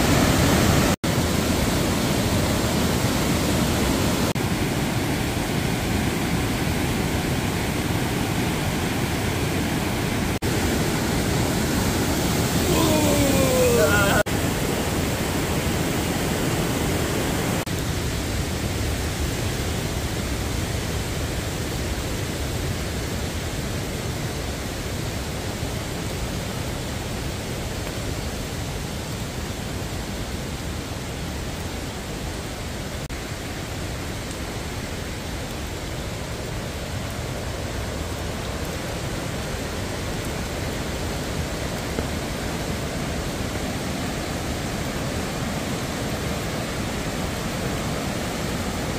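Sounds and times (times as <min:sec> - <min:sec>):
falling rain: 0:00.0 - 0:48.9
mountain stream rushing: 0:00.0 - 0:48.9.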